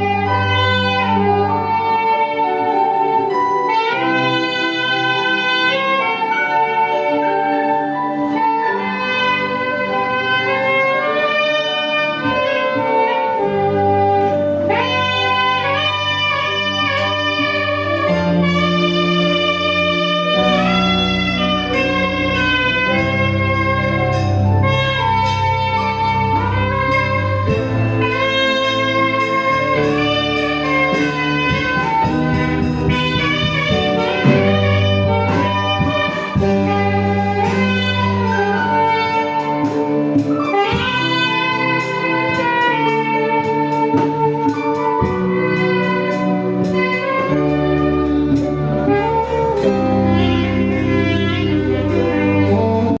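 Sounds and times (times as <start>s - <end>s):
bass guitar: 0.0s - 53.0s
guitar: 0.0s - 53.0s
saxophone melody: 0.0s - 53.0s.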